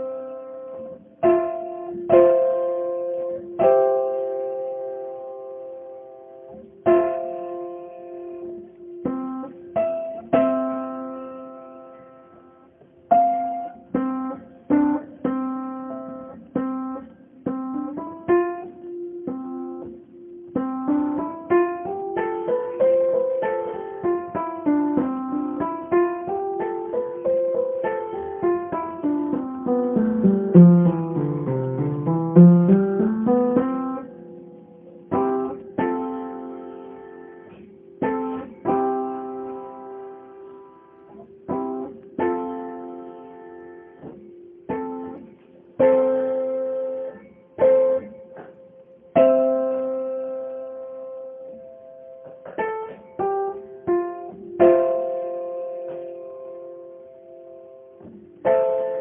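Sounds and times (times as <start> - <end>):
piano and guitar music: 0.0 - 59.0.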